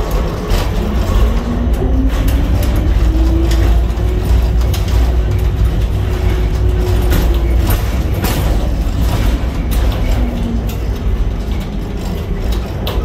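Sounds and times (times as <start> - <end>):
heavy low rumble: 0.0 - 13.0
metal clanks and rattles: 0.0 - 13.0.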